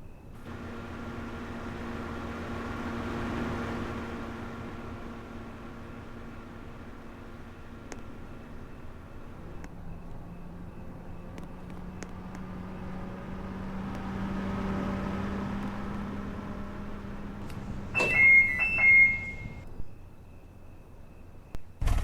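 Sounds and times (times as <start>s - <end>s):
steady low hum: 0.0s - 22.0s
car alarm chirps: 0.4s - 21.8s.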